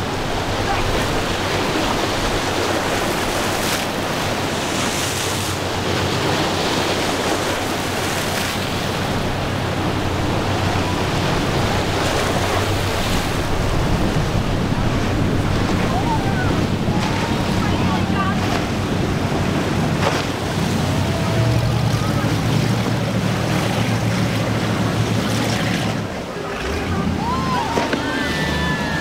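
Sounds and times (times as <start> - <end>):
choppy water: 0.0 - 29.0
powerboat engine running: 0.0 - 29.0.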